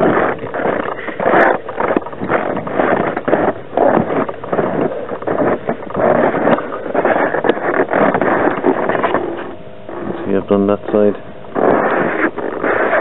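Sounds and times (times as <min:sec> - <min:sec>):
footsteps crunching in deep snow: 0:00.0 - 0:13.0.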